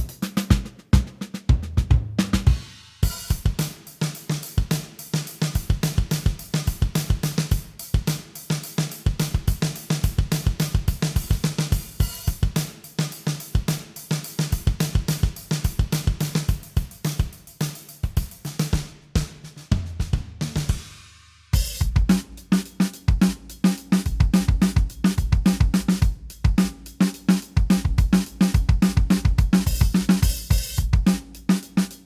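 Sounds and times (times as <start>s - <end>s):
acoustic drum kit groove: 0.0s - 32.0s.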